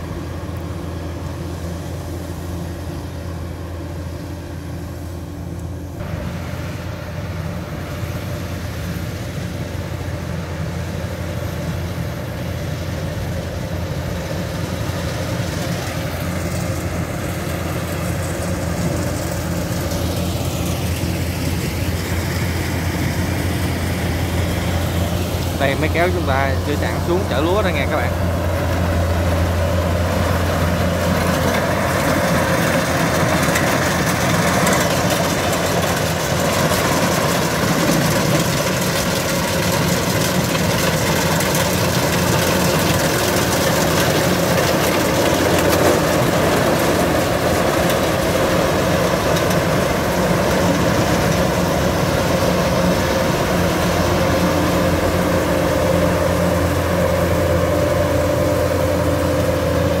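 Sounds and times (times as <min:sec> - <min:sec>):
diesel engine low hum: 0:00.0 - 1:00.0
machinery whine: 0:00.0 - 1:00.0.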